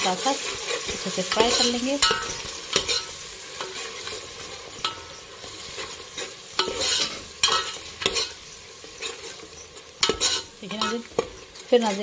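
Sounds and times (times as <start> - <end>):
onion frying in oil: 0.0 - 12.0
steel spoon scraping a pot: 0.4 - 12.0.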